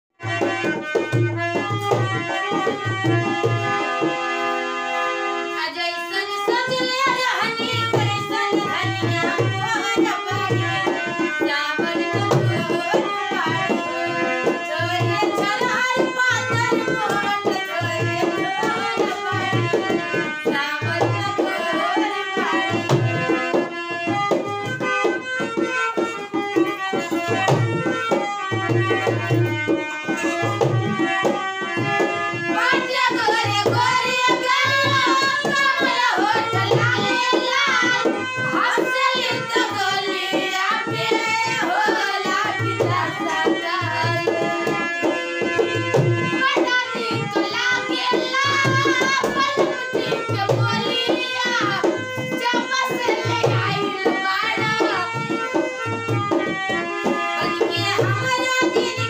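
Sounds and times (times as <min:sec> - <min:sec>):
harmonium playing: 0:00.2 - 0:59.0
women singing: 0:05.5 - 0:24.5, 0:26.2 - 0:56.0, 0:56.7 - 0:59.0.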